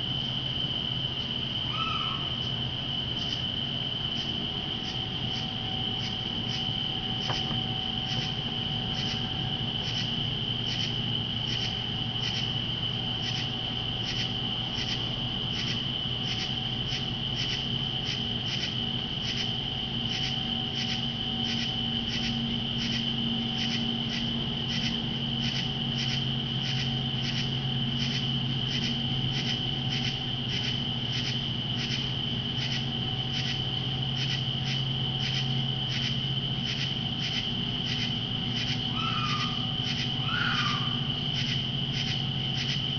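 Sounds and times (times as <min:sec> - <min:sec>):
insect high trill: 0:00.0 - 0:42.9
low steady hum: 0:00.0 - 0:42.9
pulsing insect call: 0:00.0 - 0:42.9.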